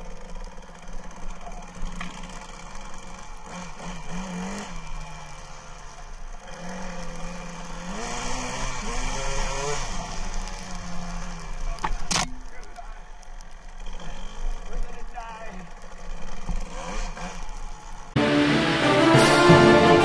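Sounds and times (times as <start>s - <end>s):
muffled motorcycle engine revving: 0.0s - 18.3s.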